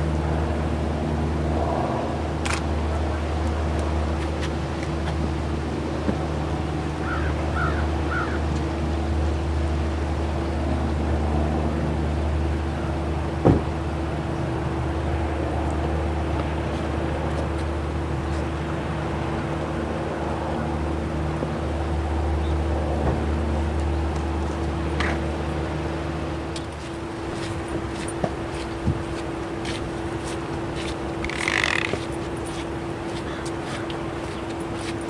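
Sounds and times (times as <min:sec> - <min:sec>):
ship engine drone: 0:00.0 - 0:35.0.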